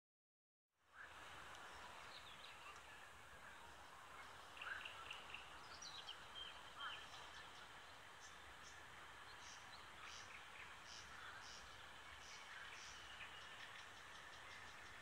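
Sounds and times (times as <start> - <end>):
soft background hiss: 0.8 - 15.0
faint bird chirps: 0.9 - 15.0.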